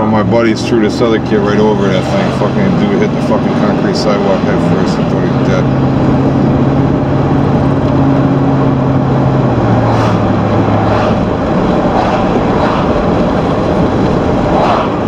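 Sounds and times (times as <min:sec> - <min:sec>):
low engine hum: 0:00.0 - 0:15.0
tyre and wind road noise: 0:00.0 - 0:15.0.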